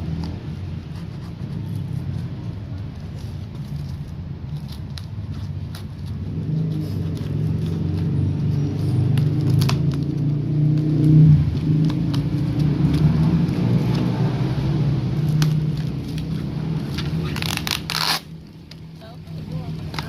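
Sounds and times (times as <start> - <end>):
crackling scraping handling noises: 0.0 - 20.0
engine humming: 0.0 - 20.0.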